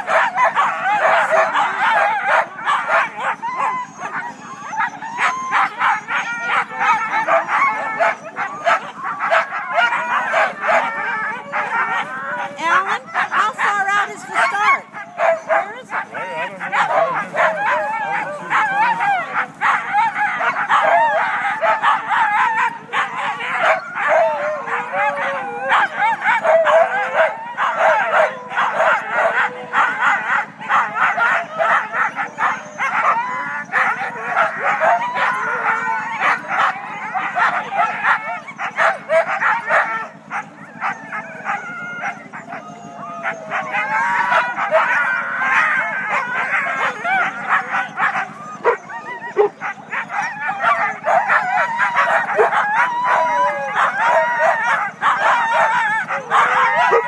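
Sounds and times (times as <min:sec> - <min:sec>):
dogs barking yelping and howling: 0:00.0 - 0:57.0.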